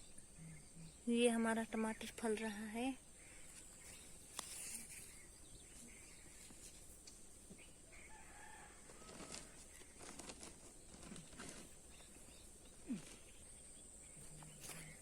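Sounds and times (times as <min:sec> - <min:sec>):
soft bird calls: 0:00.0 - 0:15.0.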